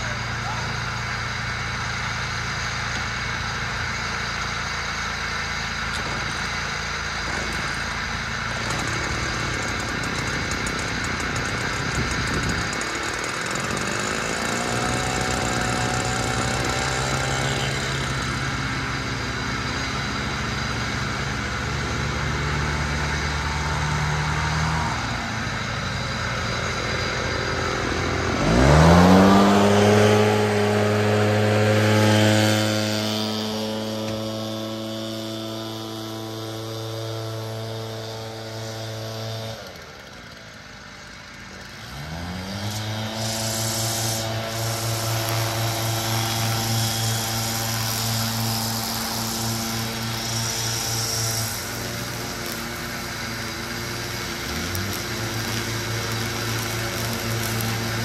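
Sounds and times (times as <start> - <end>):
leaf blowers running: 0.0 - 58.0.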